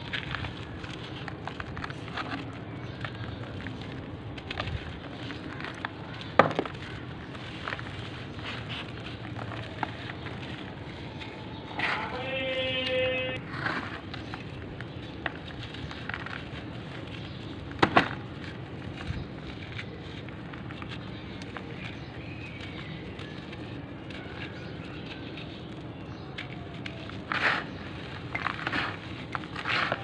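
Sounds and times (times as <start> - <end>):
charcoal crumbling between fingers: 0.0 - 13.0, 13.9 - 30.0
charcoal lump cracking: 0.0 - 13.1, 13.7 - 30.0.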